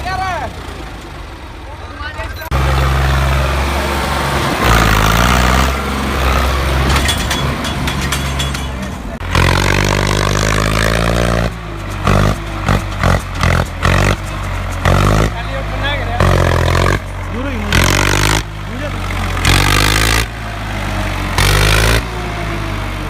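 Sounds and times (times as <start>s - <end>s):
tractor diesel engine running hard: 0.0s - 23.0s.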